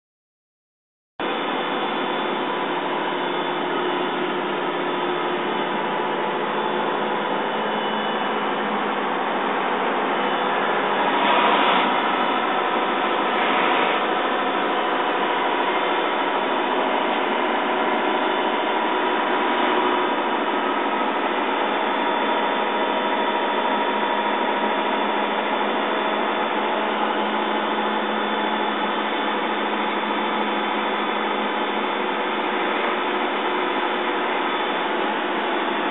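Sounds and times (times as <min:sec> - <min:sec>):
truck engine drone: 0:01.2 - 0:35.9.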